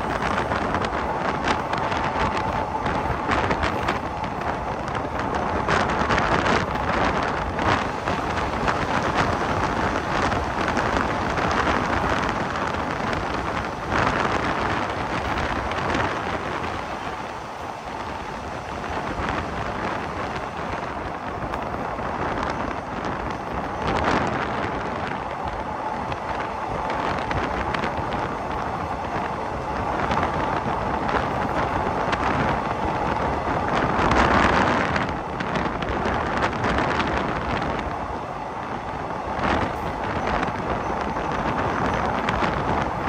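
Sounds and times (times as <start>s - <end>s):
train running on rails: 0.0s - 43.0s
wind buffeting microphone: 0.0s - 43.0s.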